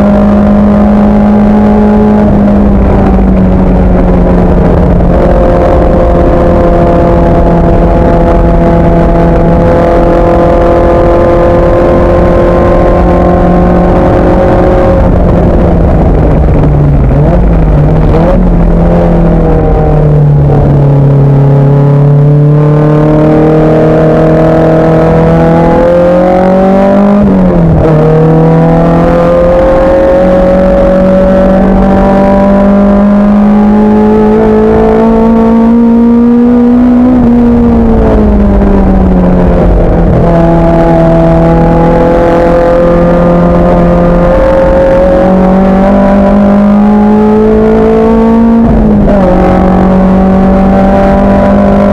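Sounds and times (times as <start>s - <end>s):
racing car engine revving: 0.0s - 51.9s.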